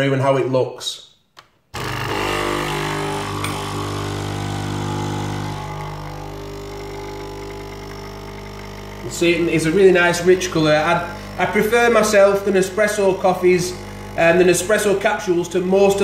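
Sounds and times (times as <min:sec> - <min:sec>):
coffee machine pump buzzing: 0:01.8 - 0:16.0.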